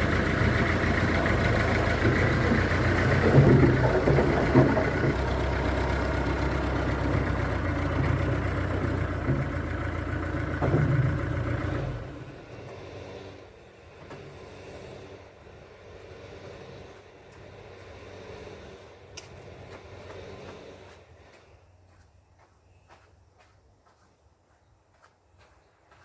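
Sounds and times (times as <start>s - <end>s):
truck engine running: 0.0s - 22.5s.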